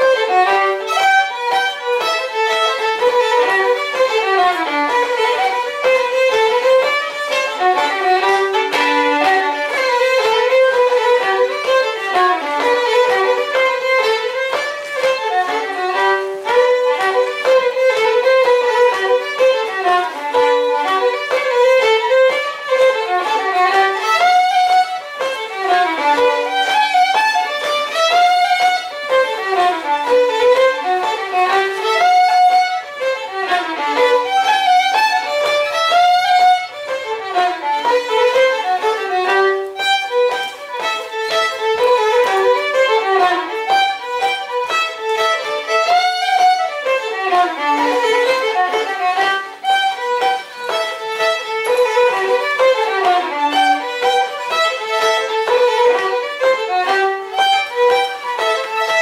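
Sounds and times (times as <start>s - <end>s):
fiddle folk dance tune: 0.0s - 59.0s.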